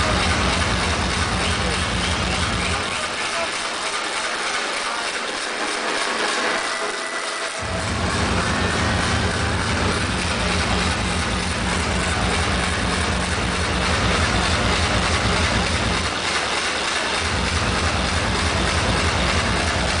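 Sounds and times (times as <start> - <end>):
loud electronic dance music: 0.0 - 20.0.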